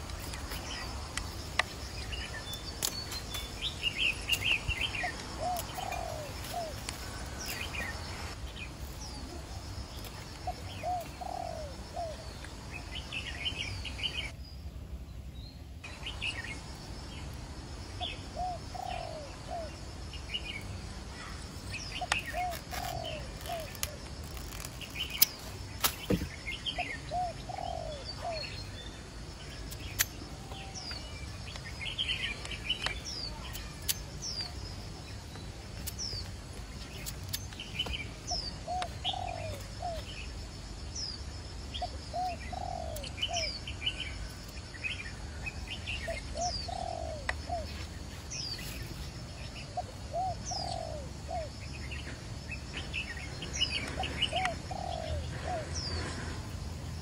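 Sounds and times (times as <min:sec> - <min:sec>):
birds calling: 0:00.0 - 0:14.3, 0:18.0 - 0:57.0.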